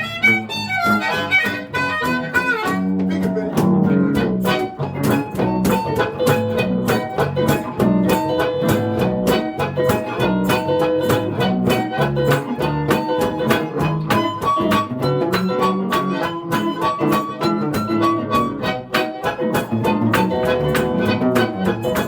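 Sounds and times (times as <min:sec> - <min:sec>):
fast blues guitar rhythm: 0:00.0 - 0:22.0
harmonica held notes: 0:00.0 - 0:22.0.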